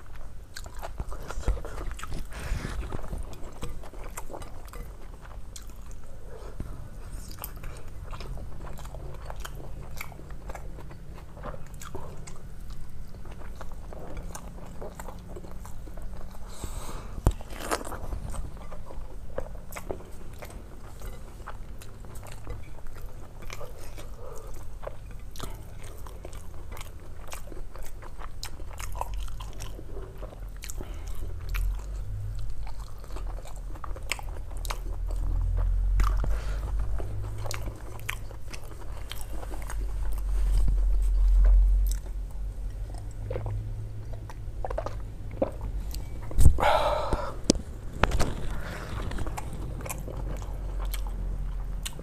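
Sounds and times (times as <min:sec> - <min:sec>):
close chewing of food: 0:00.0 - 0:52.0.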